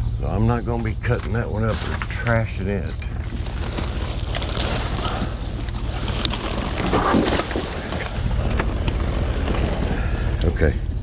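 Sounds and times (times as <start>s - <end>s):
rustling of junk: 0.8s - 10.4s.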